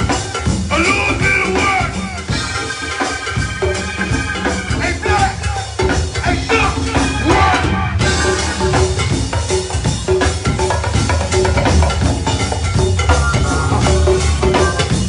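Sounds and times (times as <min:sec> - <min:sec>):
drum kit and percussion groove: 0:00.0 - 0:15.0
live band playing: 0:00.0 - 0:15.0.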